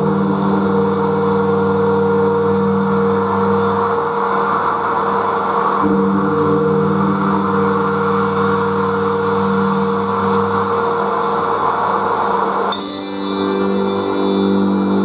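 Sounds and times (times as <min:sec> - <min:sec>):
hissing noise layer: 0:00.0 - 0:15.0
sustained droning tones: 0:00.0 - 0:15.0.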